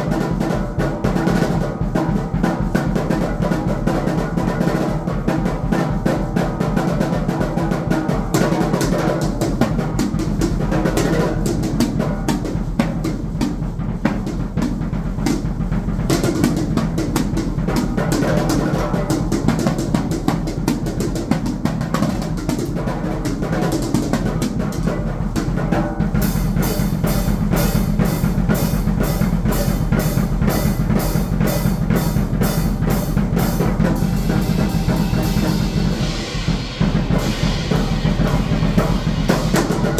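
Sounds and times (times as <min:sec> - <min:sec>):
drum kit played fast: 0:00.0 - 0:39.9
steady high drum stroke: 0:00.0 - 0:39.9.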